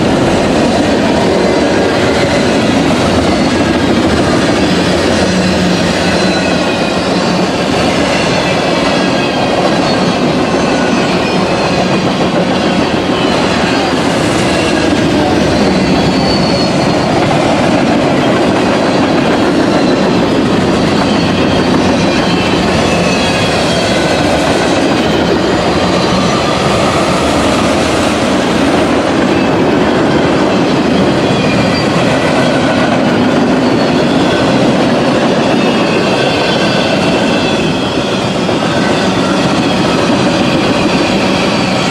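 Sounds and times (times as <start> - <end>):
freight train cars rolling past: 0.0 - 41.9
high wheel squeals: 0.9 - 41.9.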